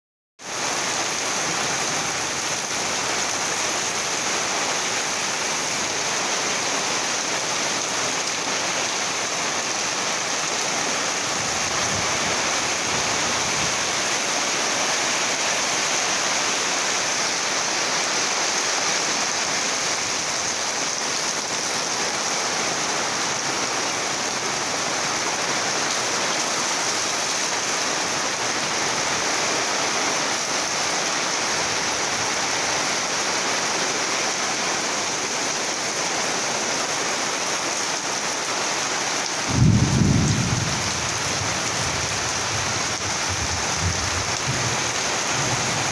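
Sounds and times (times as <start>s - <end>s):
heavy rain pouring: 0.4s - 45.9s.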